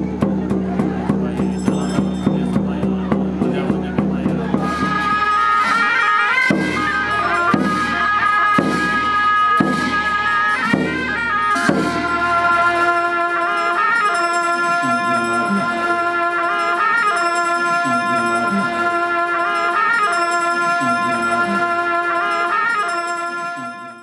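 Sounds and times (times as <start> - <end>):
frame drum beats: 0.0 - 22.2
shawms playing reedy melody: 0.0 - 24.0.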